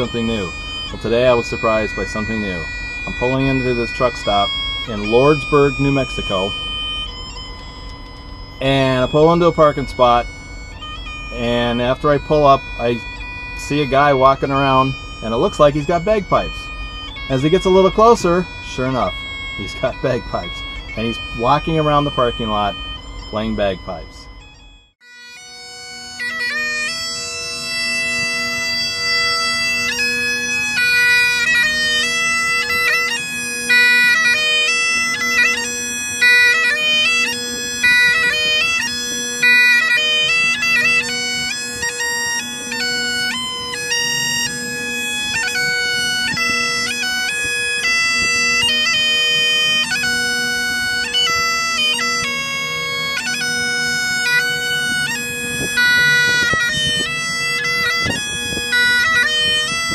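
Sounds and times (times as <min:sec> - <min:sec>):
bagpipes playing a tune: 0:00.0 - 0:59.9.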